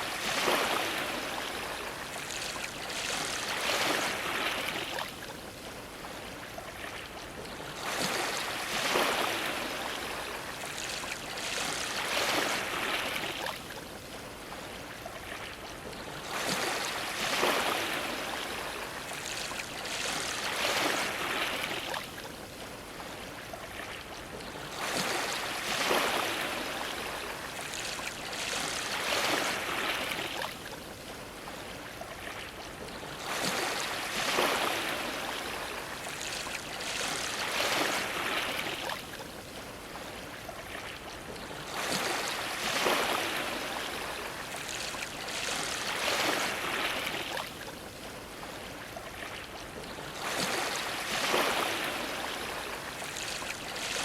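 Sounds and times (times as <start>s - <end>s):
waves splashing against a dock: 0.0s - 54.0s.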